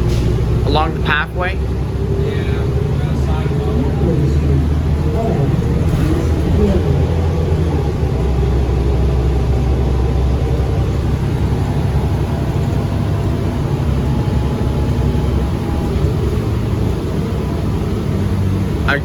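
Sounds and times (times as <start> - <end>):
bus engine low rumble: 0.0 - 19.0.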